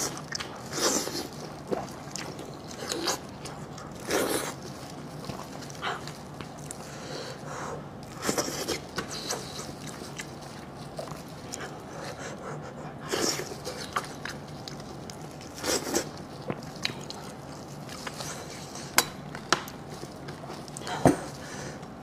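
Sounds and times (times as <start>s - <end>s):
people chewing: 0.0s - 22.0s.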